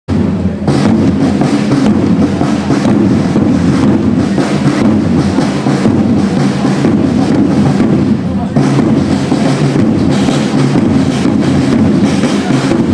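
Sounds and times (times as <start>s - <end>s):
marching side drums beat: 0.1s - 12.9s.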